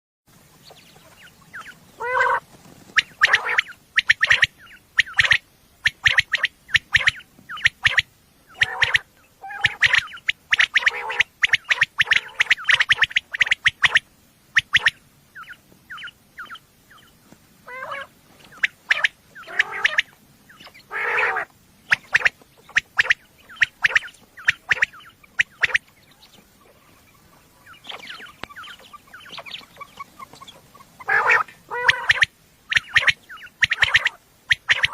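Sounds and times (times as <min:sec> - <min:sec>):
quail calling: 0:00.5 - 0:34.9.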